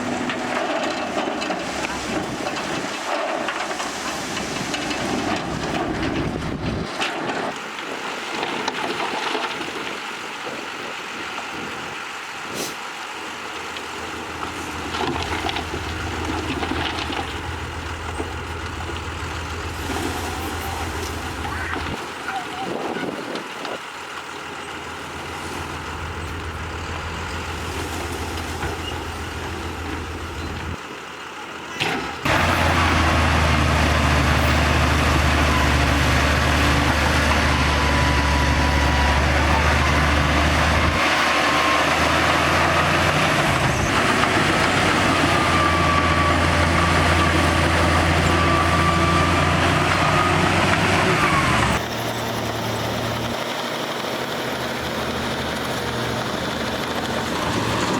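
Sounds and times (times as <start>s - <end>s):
heavy diesel machinery running: 0.0s - 57.9s.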